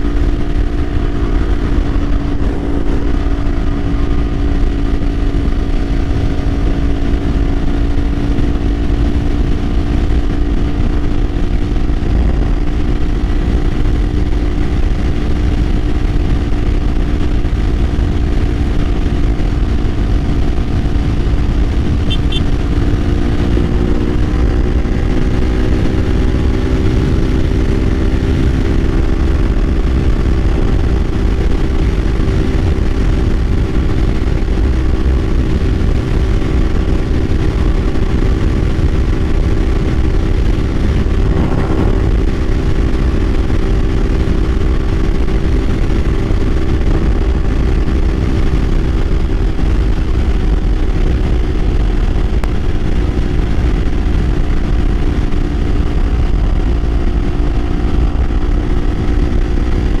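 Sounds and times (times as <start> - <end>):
motorcycle engine running: 0.0 - 60.0
wind rumble on microphone: 0.0 - 60.0.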